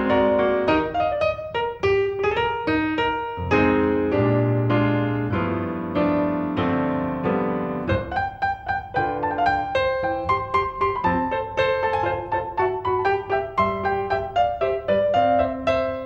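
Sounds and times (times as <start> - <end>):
solo piano: 0.0 - 16.0.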